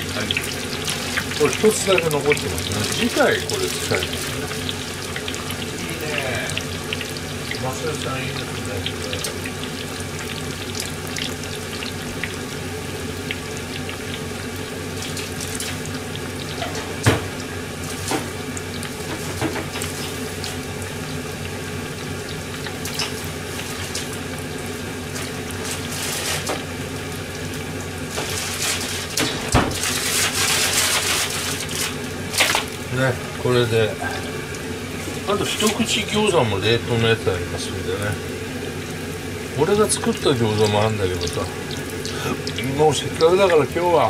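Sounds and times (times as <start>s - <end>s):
oil crackles and pops: 0.0s - 36.4s, 37.2s - 44.0s
cutlets deep-frying in oil: 0.0s - 44.0s.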